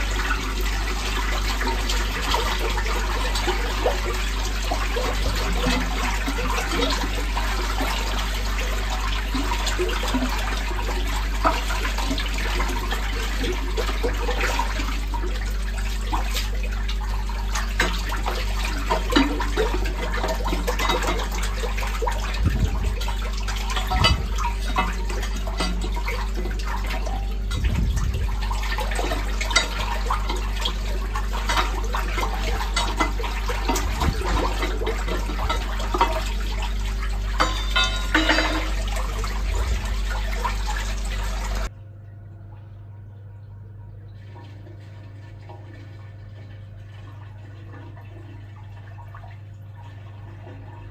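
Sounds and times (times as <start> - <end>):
drain rod splashing and knocking: 0.0 - 41.7
steady low hum: 0.0 - 50.9
water swirling and gurgling: 0.0 - 50.9.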